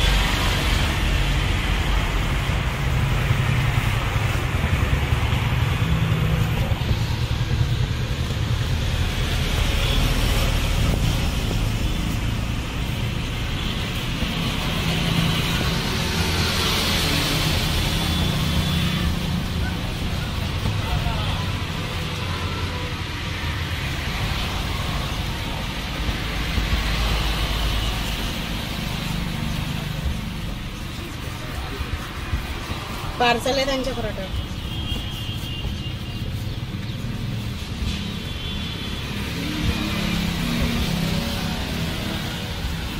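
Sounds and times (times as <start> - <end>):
low traffic rumble: 0.0 - 42.9.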